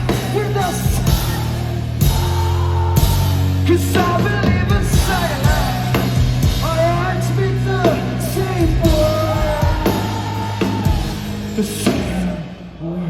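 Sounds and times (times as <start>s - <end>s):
rock band playing live: 0.0s - 12.8s
person singing wordless line: 0.0s - 13.0s.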